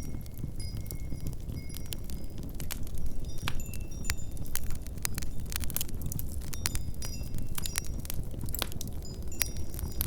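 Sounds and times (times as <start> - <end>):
fireplace crackling: 0.0 - 10.0
low rumble of blizzard wind: 0.0 - 10.0.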